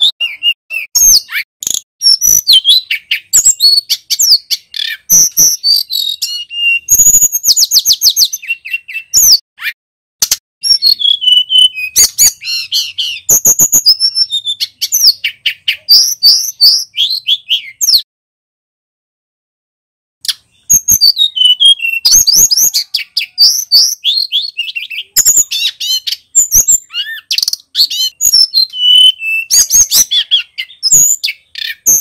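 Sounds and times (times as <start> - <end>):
bird singing whistles and trills: 0.0 - 9.8, 10.6 - 18.1, 20.2 - 32.0.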